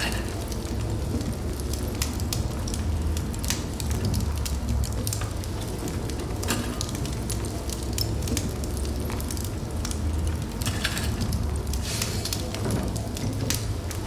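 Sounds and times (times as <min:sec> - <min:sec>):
fire crackling in fireplace: 0:00.0 - 0:14.0.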